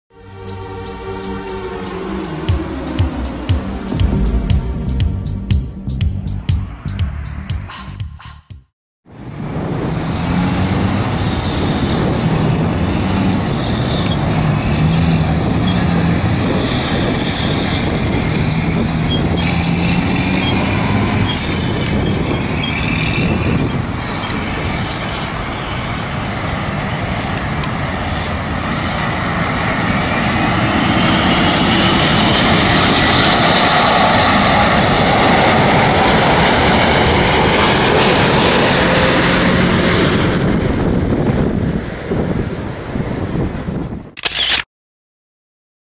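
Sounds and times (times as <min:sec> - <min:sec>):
jet airliner engines roaring: 0:00.2 - 0:05.2, 0:09.1 - 0:44.2
high engine whine: 0:00.2 - 0:08.4, 0:09.1 - 0:44.6.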